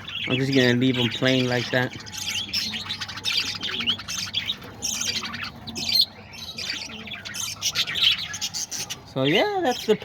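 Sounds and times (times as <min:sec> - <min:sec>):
parakeets chirping and squawking: 0:00.0 - 0:10.0.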